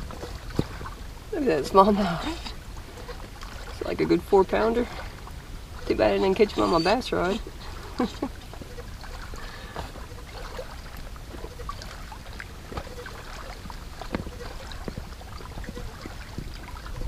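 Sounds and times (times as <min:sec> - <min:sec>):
water lapping: 0:00.0 - 0:17.0
wind rumble on microphone: 0:00.0 - 0:17.0.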